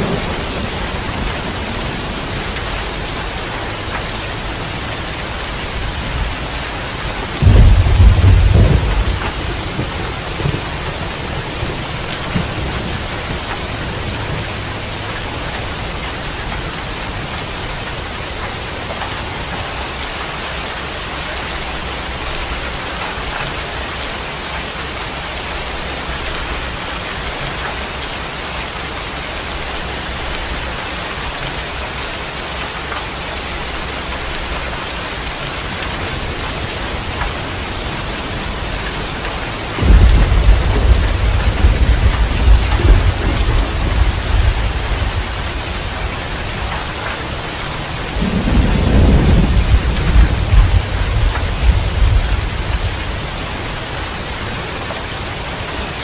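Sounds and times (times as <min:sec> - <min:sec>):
thunder rumble: 0:00.0 - 0:23.6, 0:33.7 - 0:55.7
steady rain falling: 0:00.0 - 0:56.0.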